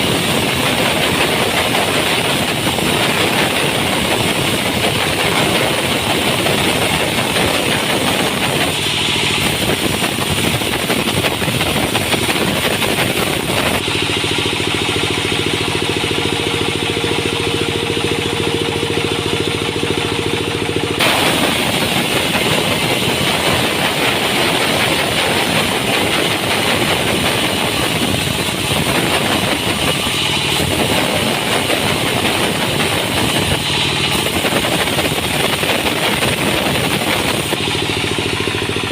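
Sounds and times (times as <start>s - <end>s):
pitched engine-like hum: 0.0s - 38.9s
sawmill machinery running: 0.0s - 38.9s.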